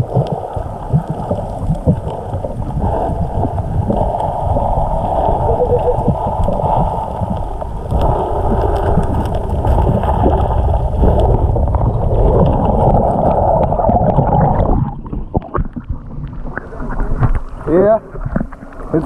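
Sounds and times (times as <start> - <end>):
floodwater rushing and churning: 0.0 - 19.0.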